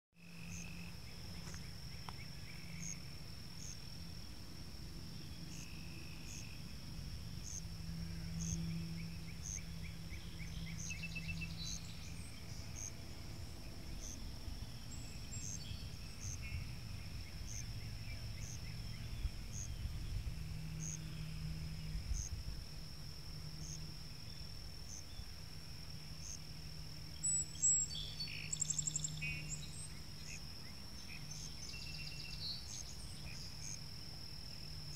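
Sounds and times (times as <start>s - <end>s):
high-pitched insect drone: 0.2s - 34.9s
insect chirp: 0.2s - 34.9s.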